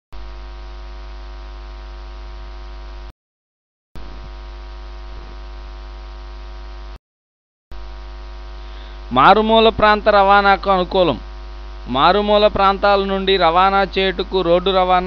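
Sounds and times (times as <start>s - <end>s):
electrical mains hum and buzz: 0.2s - 3.1s, 4.0s - 7.0s, 7.7s - 15.0s.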